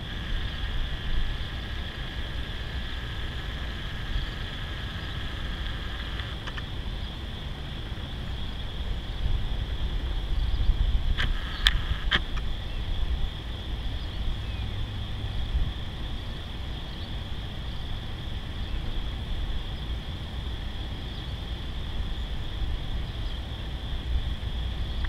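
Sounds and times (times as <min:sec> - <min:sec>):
diesel locomotive rumble: 0:00.0 - 0:25.0.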